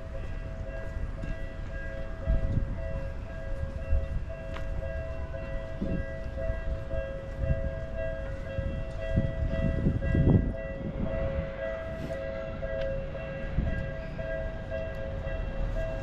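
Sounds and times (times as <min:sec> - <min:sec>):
level-crossing alarm ringing: 0:00.0 - 0:16.0.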